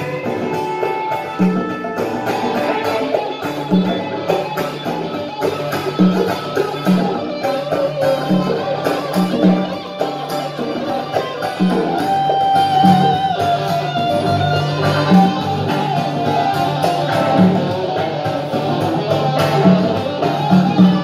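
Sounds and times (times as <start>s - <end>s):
drums steady beat: 0.0s - 21.0s
guitars playing: 0.0s - 21.0s.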